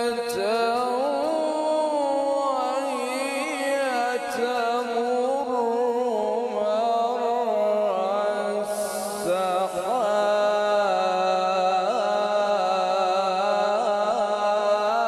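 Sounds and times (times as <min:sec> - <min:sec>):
man chanting over loudspeakers: 0:00.0 - 0:15.0.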